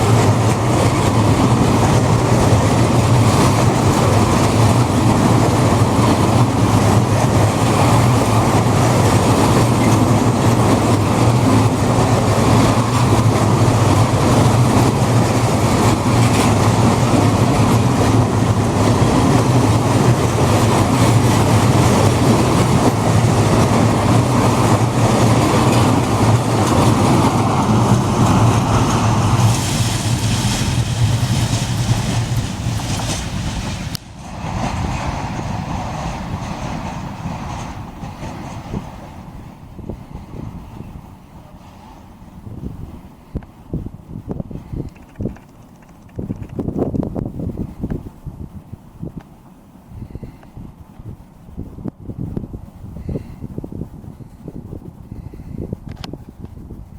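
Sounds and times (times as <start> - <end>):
freight train wheels rumbling on rail: 0.0 - 56.9.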